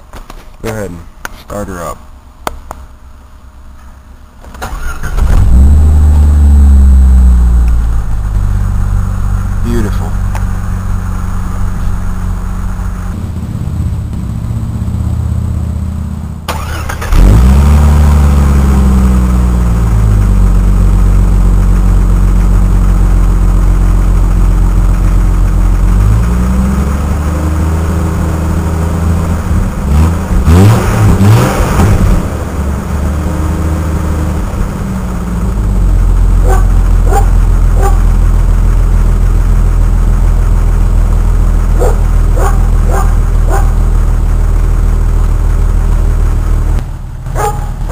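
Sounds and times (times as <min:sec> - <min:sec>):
car engine revving and idling: 0:01.6 - 0:47.9.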